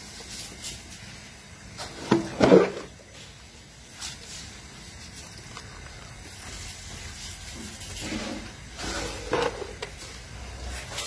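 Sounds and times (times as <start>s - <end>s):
rice swishing in water in pot: 0.0s - 11.0s.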